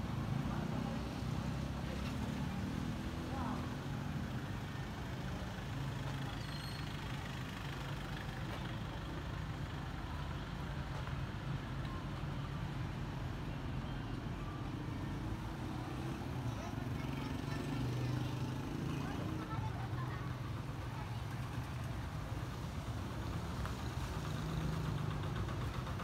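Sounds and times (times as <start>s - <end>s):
traffic engines rumbling: 0.0s - 26.0s.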